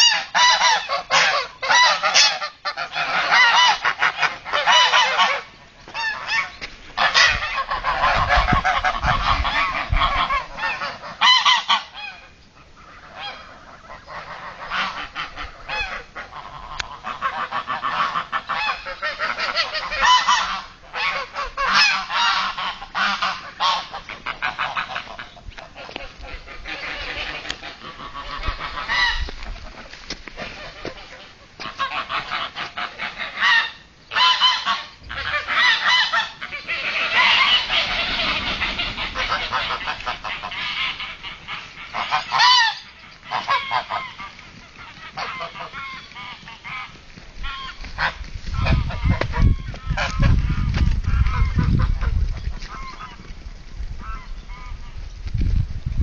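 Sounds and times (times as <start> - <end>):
geese honking: 0.0 - 53.4, 54.0 - 55.0.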